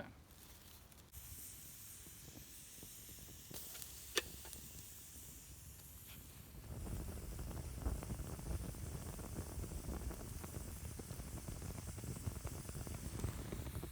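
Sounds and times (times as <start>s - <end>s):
faint steady hiss: 0.0s - 13.9s.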